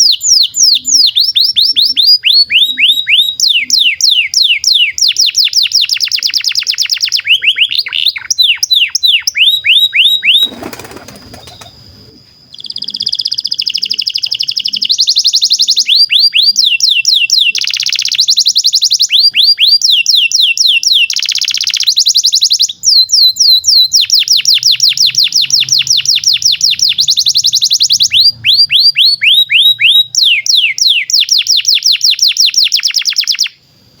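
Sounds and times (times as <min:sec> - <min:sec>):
canary singing trills: 0:00.0 - 0:33.6.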